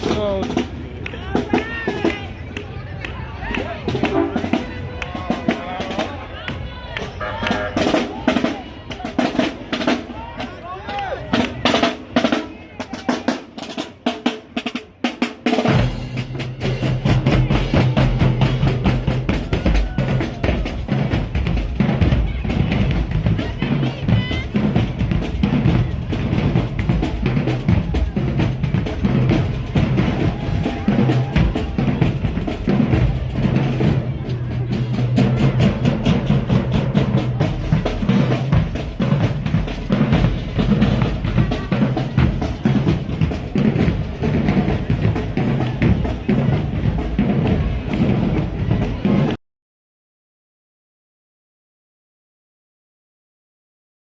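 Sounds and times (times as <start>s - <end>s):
marching drumline playing: 0.0s - 49.4s.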